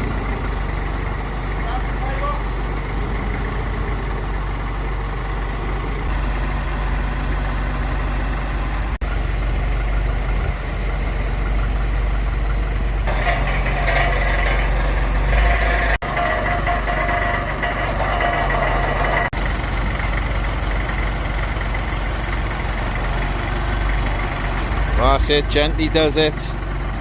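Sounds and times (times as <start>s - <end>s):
forklift engine running: 0.0s - 27.0s.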